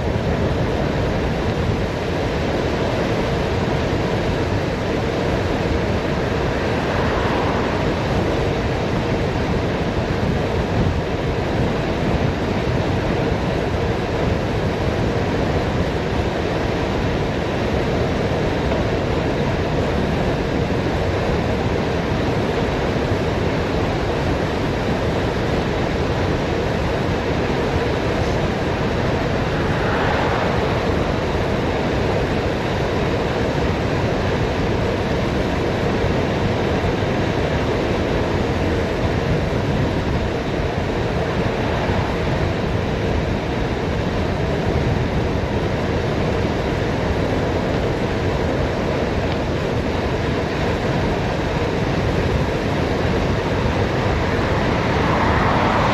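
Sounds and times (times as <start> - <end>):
road noise: 0.0 - 55.9
wind rushing on microphone: 0.0 - 55.9.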